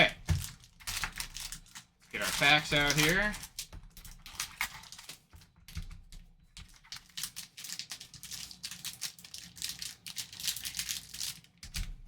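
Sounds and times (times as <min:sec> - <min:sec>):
foil packs crinkling: 0:00.0 - 0:05.9, 0:06.6 - 0:12.0.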